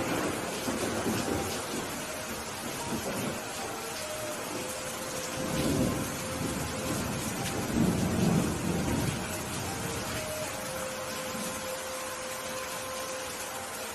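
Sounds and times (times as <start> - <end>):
thunder rumbling: 0.0 - 12.6
steady rain: 0.0 - 13.9.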